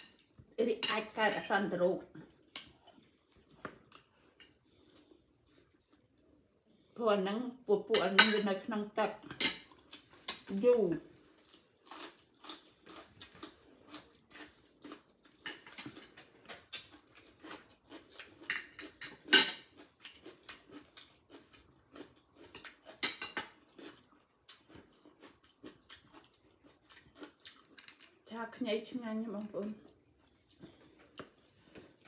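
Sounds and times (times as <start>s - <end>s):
chewing: 2.2s - 6.8s, 9.2s - 10.5s, 11.1s - 28.3s, 29.4s - 32.0s.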